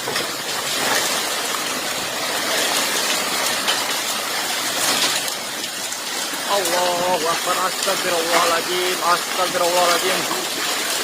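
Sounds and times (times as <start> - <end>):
heavy rain and hail in wind: 0.0 - 11.0.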